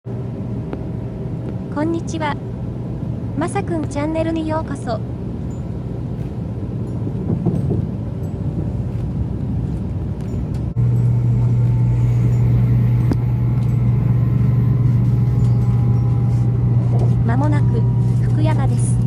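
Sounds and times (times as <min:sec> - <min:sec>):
strong low hum: 0:00.1 - 0:19.0
train rumble inside passenger car: 0:00.1 - 0:19.0.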